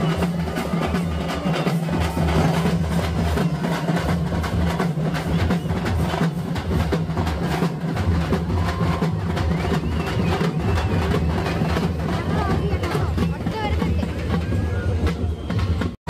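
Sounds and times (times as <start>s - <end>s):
heavy drumming: 0.0s - 16.0s.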